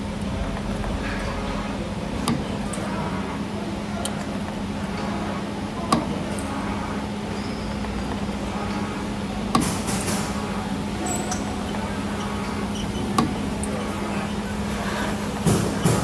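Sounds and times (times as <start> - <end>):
spring forming machine humming: 0.0 - 16.0.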